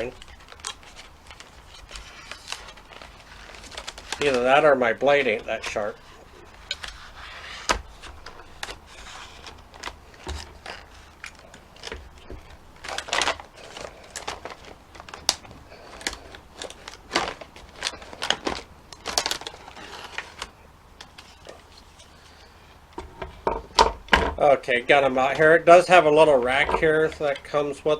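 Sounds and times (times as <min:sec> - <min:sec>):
plastic packaging crackling: 0:00.0 - 0:27.9.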